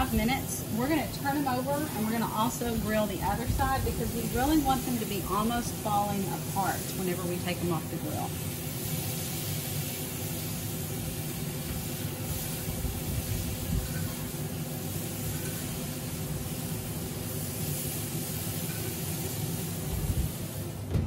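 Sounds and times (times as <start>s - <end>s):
fruit sizzling on grill: 0.0s - 20.9s
grill hissing and rumbling: 0.0s - 21.0s.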